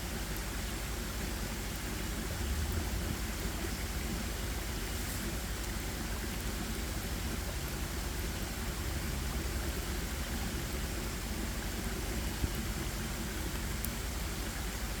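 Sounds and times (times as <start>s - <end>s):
steady rushing outdoor noise: 1.6s - 15.0s.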